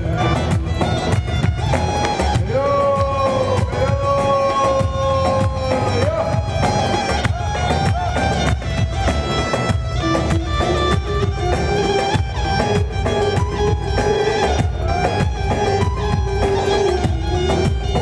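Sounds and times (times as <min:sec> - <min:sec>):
band playing folk dance music: 0:00.0 - 0:18.0.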